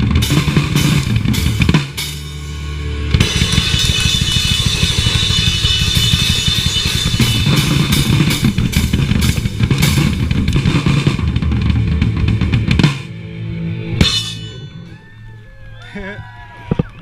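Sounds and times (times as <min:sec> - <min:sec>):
drum kit hits: 0:00.0 - 0:13.2, 0:14.0 - 0:14.9
live rock band playing: 0:00.0 - 0:15.2.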